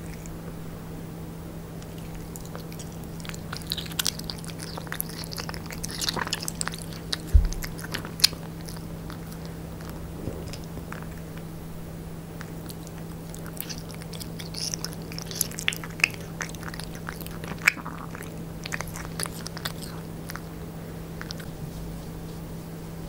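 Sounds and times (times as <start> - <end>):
cat licking and chewing: 0.0 - 0.7, 1.8 - 11.5, 12.3 - 22.5
steady low hum: 0.0 - 23.0.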